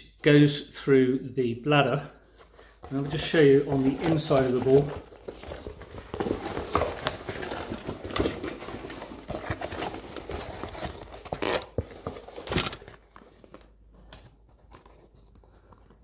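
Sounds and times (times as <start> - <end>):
football layers rustling and crinkling: 2.2 - 16.0.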